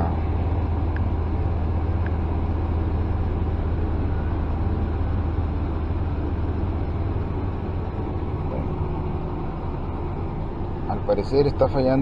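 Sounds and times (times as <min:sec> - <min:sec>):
engine idling with misfire: 0:00.0 - 0:12.0.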